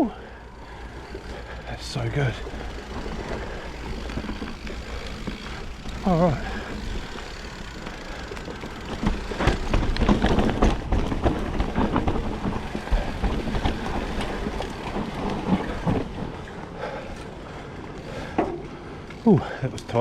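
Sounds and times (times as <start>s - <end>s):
bike chain and frame rattling: 0.0s - 20.0s
tyres rolling over dirt and rocks: 0.0s - 20.0s.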